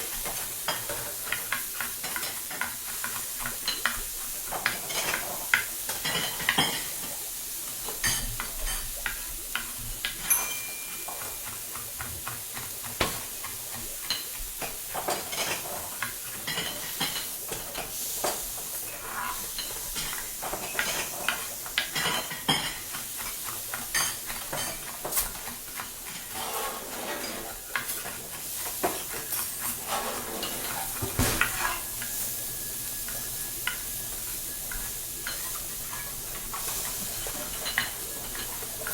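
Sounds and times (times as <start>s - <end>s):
frying sizzle: 0.0s - 38.9s
utensils clinking on pots: 0.0s - 38.9s.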